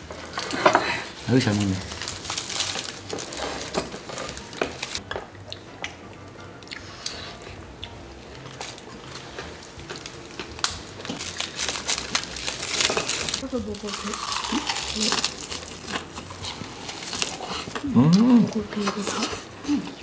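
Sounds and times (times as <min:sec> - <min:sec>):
wet chewing and sucking: 0:00.0 - 0:20.0.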